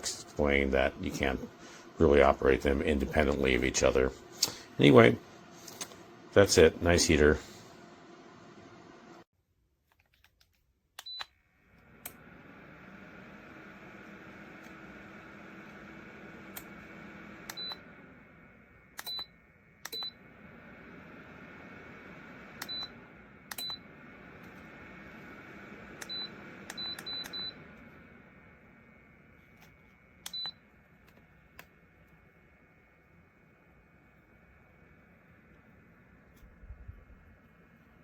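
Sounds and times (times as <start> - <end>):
heater fan running: 0.0 - 9.3, 11.0 - 38.0.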